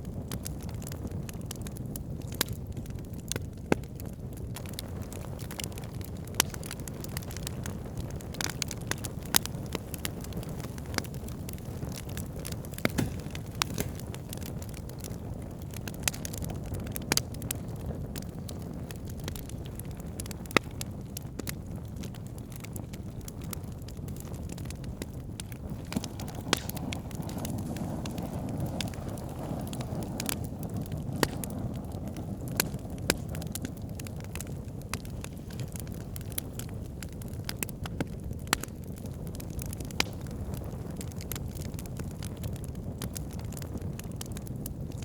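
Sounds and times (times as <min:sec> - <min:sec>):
campfire crackling and popping: 0:00.0 - 0:45.0
low fire rumble: 0:00.0 - 0:45.0.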